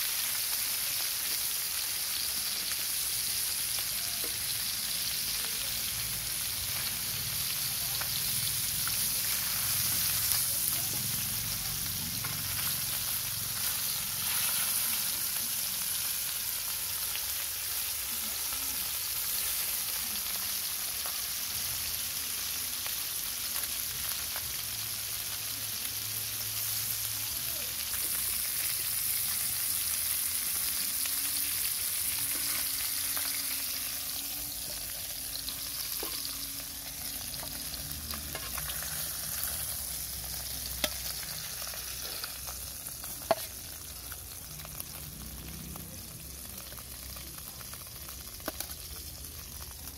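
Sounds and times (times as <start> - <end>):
fish sizzling in hot oil: 0.0 - 49.9.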